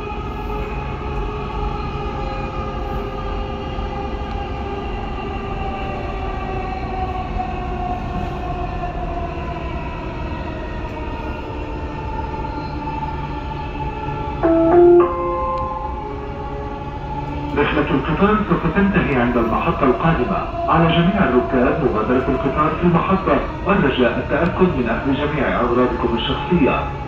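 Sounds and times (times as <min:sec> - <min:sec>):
train rumble inside carriage: 0:00.0 - 0:27.0.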